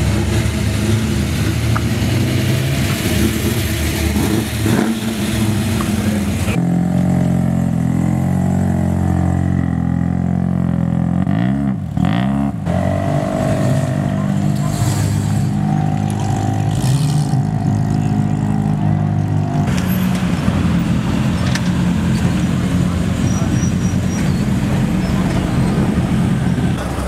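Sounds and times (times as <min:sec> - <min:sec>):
car engine revving: 0:00.0 - 0:27.0
car engines running: 0:00.0 - 0:27.0.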